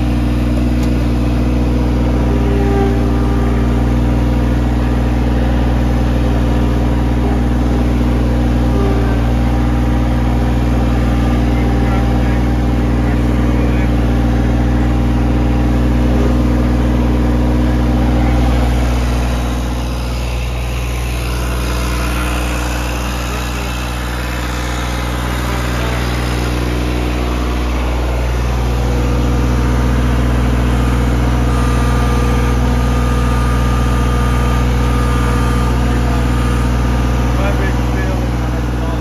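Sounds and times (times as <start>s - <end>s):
diesel mower engine running: 0.0s - 39.0s.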